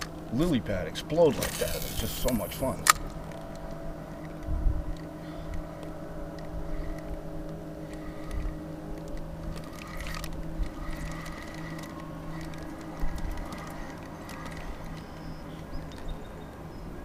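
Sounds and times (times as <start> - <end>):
steady motor hum: 0.0 - 17.0
small clicks: 1.3 - 16.8.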